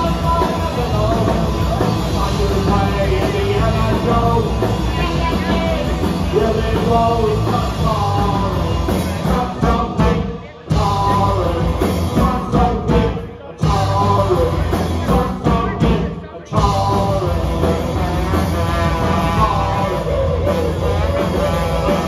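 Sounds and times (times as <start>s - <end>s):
punk rock band playing live: 0.0s - 22.0s.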